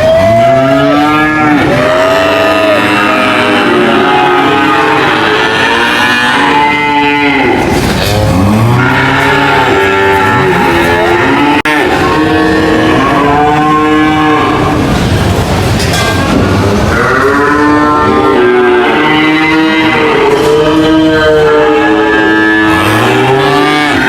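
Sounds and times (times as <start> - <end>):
cows mooing: 0.0 - 24.0.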